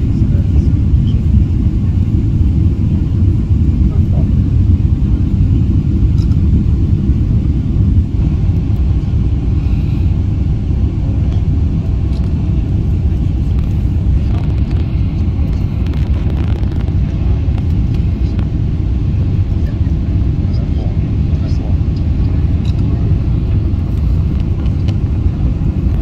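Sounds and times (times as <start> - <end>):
jet engines and airflow rumble: 0.0 - 26.0.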